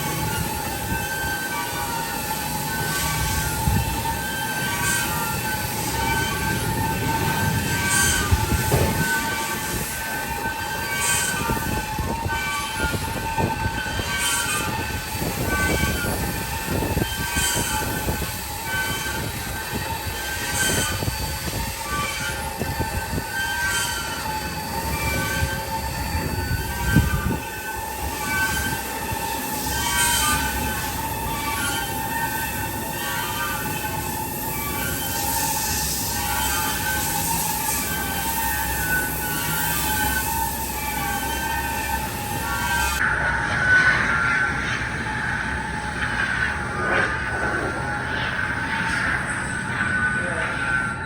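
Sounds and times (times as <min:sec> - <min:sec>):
hissing bursts: 0:00.0 - 0:51.0
machinery high whine: 0:00.0 - 0:51.0.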